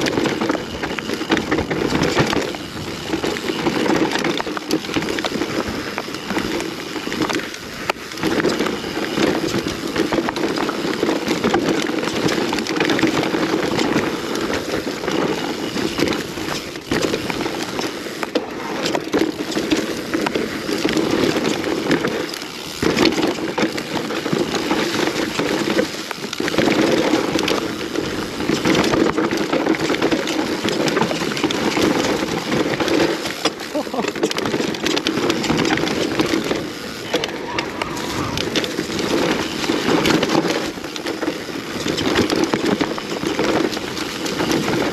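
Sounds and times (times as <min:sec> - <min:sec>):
bike knocking and rattling: 0:00.0 - 0:44.9
bike riding rushing noise: 0:00.0 - 0:44.9.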